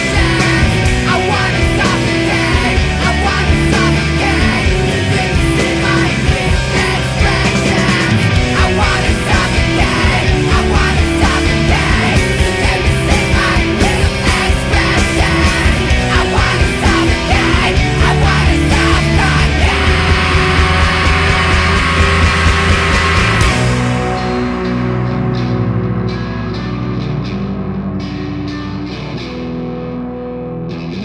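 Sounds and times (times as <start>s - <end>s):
rock band playing loud: 0.0s - 31.0s.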